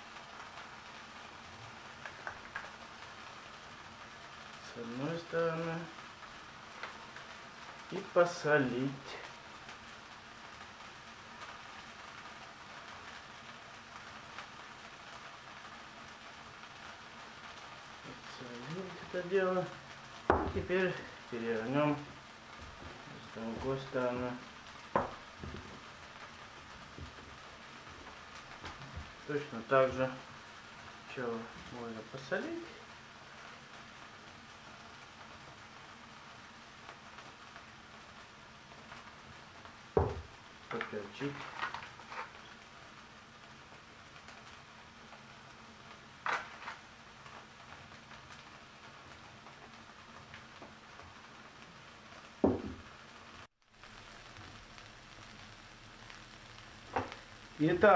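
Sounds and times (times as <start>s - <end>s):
onion sizzling in oil: 0.0s - 57.9s
small crackles: 0.0s - 57.9s.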